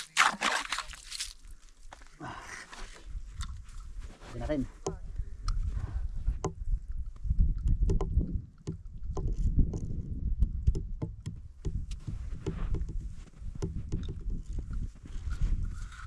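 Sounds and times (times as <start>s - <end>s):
wind rumbling on microphone: 3.0s - 16.0s.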